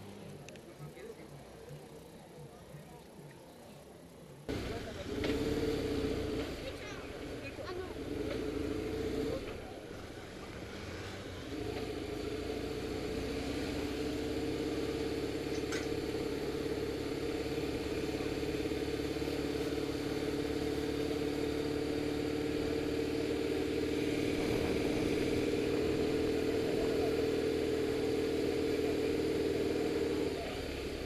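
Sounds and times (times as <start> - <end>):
motorcycle engine running: 4.4 - 31.0.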